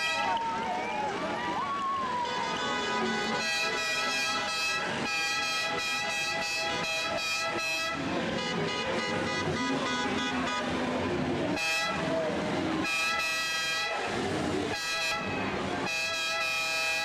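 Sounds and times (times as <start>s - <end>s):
street clamour: 0.0s - 17.0s
horn tooting: 2.2s - 17.0s.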